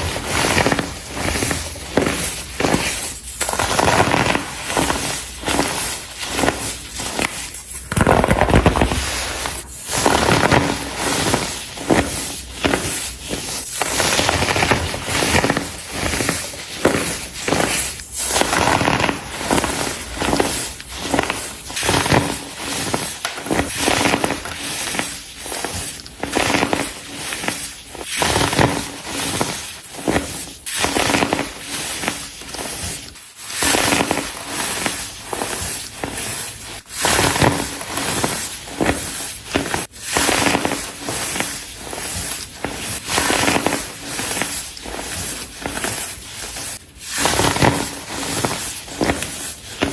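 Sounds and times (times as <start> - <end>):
baking soda blocks crunching: 0.0 - 49.9.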